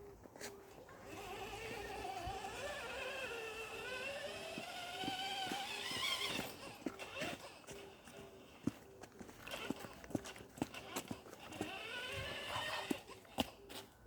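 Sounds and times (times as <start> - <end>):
small electric motor whining: 0.8 - 13.9.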